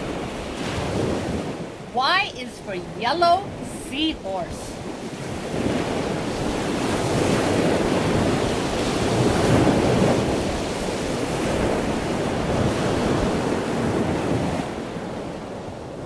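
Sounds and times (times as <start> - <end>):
ocean waves rushing: 0.0 - 16.0.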